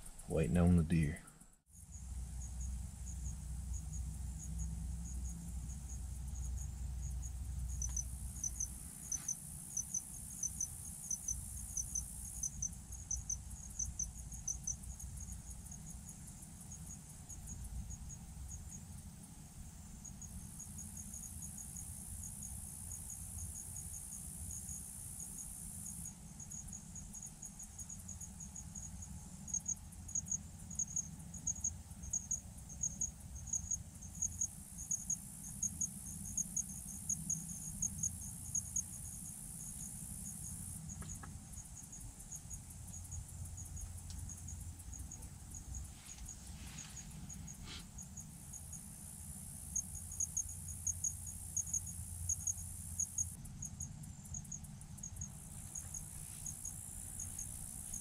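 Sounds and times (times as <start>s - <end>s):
continuous insect buzz: 0.0s - 58.0s
crickets chirping: 0.0s - 58.0s.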